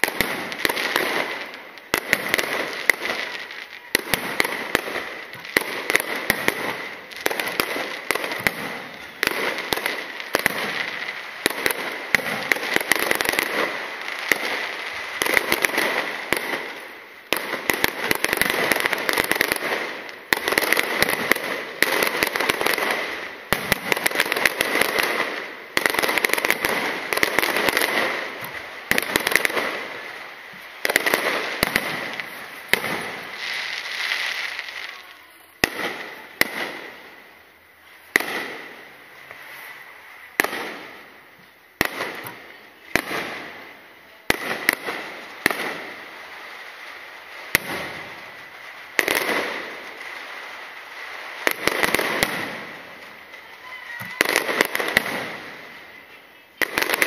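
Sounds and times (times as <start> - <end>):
fireworks bursting with crackling: 0.0 - 57.0.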